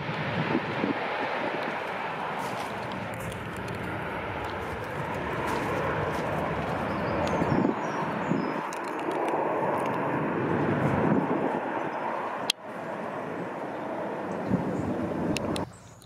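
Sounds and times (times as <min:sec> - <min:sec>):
jet engines at take-off power: 0:00.0 - 0:16.0.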